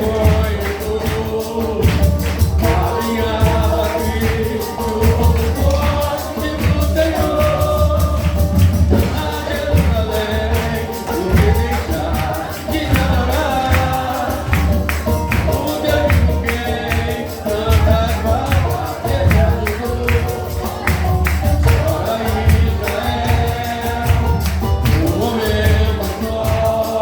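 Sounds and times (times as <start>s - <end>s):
band playing: 0.0s - 27.0s
group singing: 0.0s - 27.0s
tambourine: 0.0s - 27.0s.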